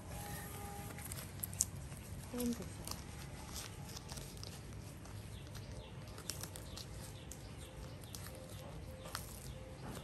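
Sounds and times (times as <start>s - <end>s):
diaper rustling and crinkling: 0.0s - 10.0s
sharp crackles: 0.2s - 10.0s.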